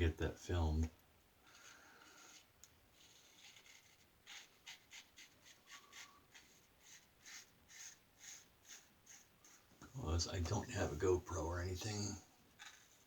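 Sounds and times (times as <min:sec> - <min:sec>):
razor scraping stubble: 0:01.5 - 0:09.9, 0:10.5 - 0:13.0.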